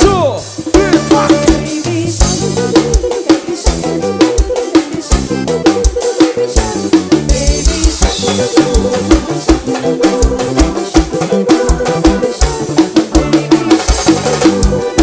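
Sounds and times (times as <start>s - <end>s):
upbeat instrumental dance music: 0.0s - 15.0s.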